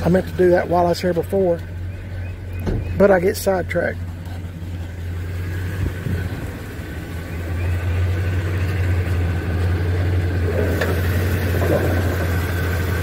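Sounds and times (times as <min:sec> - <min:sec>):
vee eight engine idling: 0:00.0 - 0:13.0.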